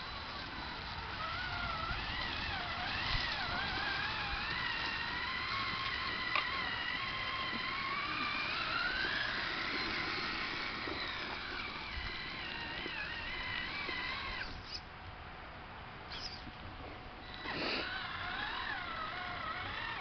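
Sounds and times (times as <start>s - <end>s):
electric motor whining: 0.0s - 14.8s, 17.2s - 20.0s.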